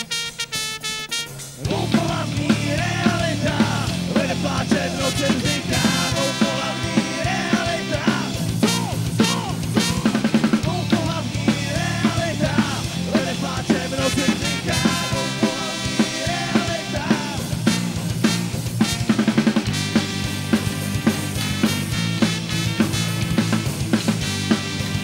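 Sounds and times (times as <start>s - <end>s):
drum kit beat: 0.0s - 25.0s
bass guitar: 1.6s - 25.0s
electric guitar: 1.6s - 25.0s.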